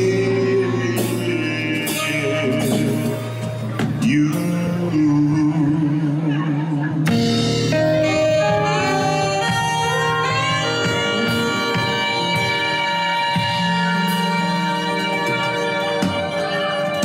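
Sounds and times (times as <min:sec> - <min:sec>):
man singing: 0:00.0 - 0:14.9
live band playing: 0:00.0 - 0:17.0.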